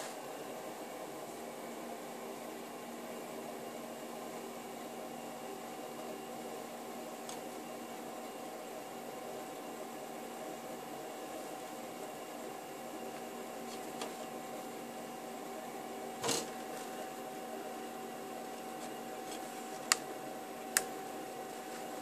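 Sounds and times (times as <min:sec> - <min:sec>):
machine hum with fixed tones: 0:00.0 - 0:22.0.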